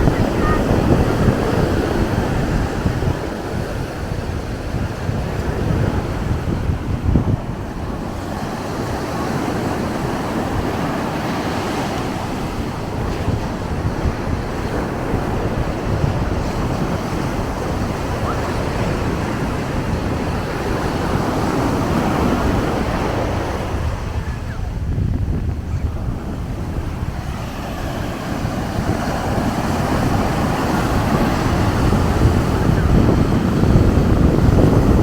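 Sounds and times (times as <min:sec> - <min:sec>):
ocean surf washing onto beach: 0:00.0 - 0:35.0
wind rumbling on microphone: 0:00.0 - 0:35.0.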